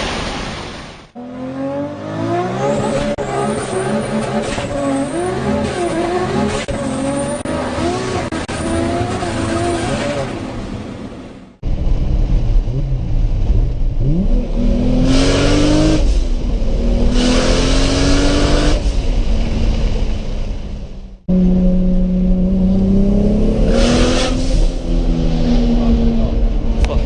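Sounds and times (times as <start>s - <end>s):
turbocharged car engine accelerating: 1.2s - 10.9s, 11.7s - 27.0s.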